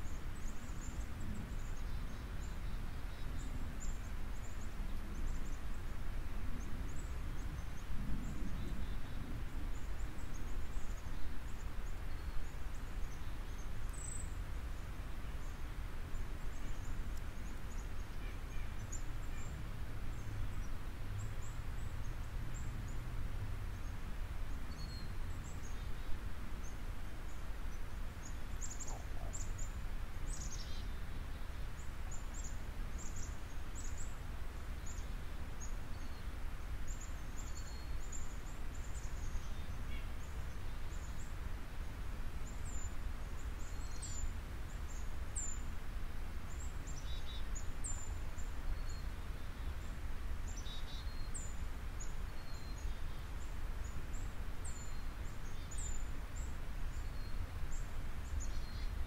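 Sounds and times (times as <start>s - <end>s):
small birds chirping: 0.0s - 23.0s, 23.7s - 59.0s.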